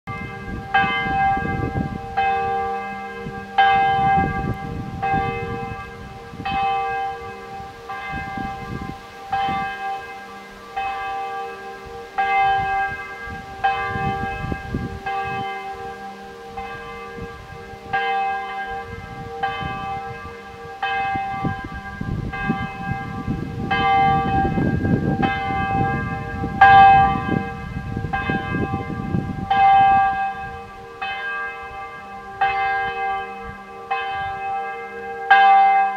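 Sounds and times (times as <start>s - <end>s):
wind gusts in trees: 0.1s - 35.8s
church bell tolling: 0.1s - 35.9s.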